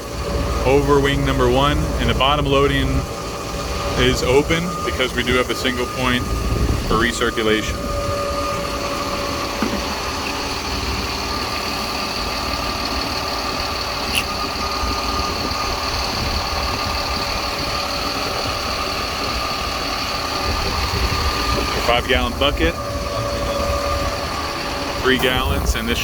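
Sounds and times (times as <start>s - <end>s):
pump whine: 0.0s - 26.0s
truck engine rumble: 0.0s - 26.0s.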